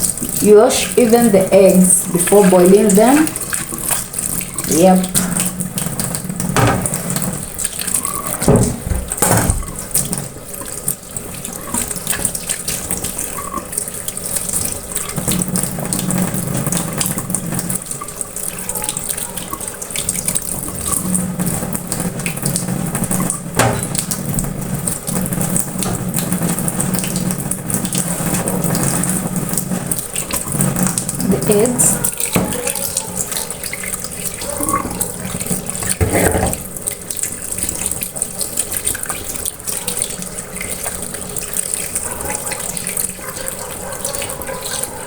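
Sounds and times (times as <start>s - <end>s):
tap water running into sink: 0.0s - 45.0s.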